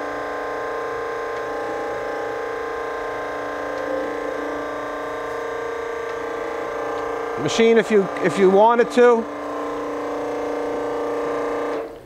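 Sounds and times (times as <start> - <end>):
surface grinder humming: 0.0 - 12.0.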